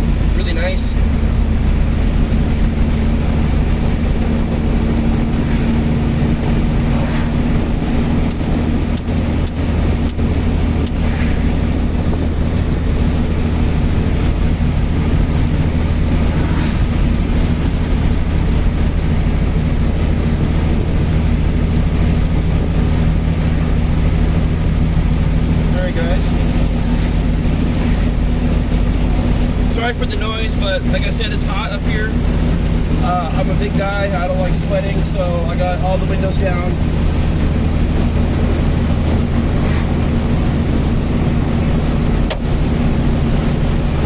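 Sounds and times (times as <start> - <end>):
low engine drone: 0.0 - 44.0
road and wind noise: 0.0 - 44.0.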